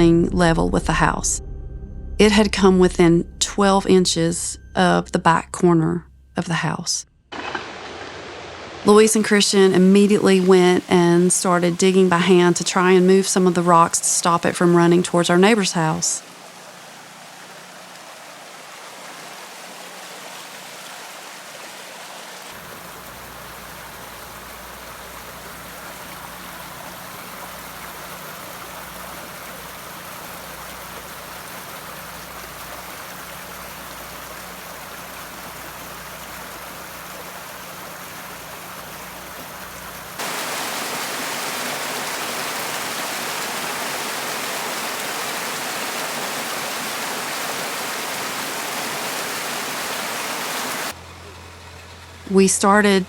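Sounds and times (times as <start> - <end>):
creek water rushing: 7.3 - 53.0.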